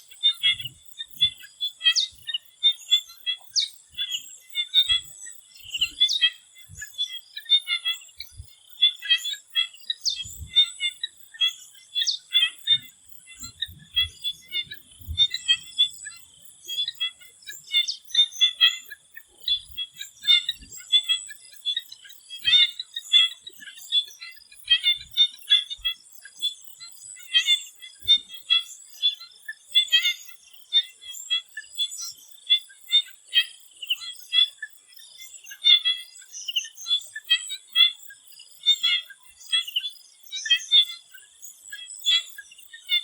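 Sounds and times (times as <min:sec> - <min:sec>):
frogs chirping in chorus: 0:00.0 - 0:43.0.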